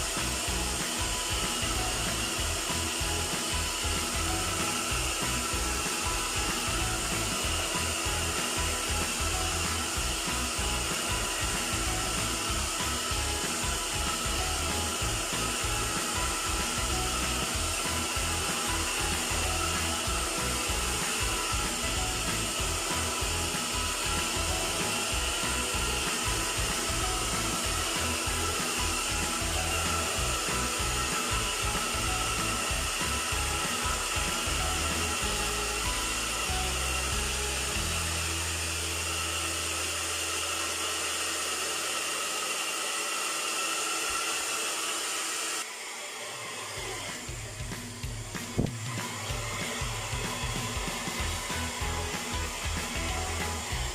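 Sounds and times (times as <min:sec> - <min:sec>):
faint motor whine: 0:00.0 - 0:53.9
hair dryer running: 0:00.0 - 0:53.9.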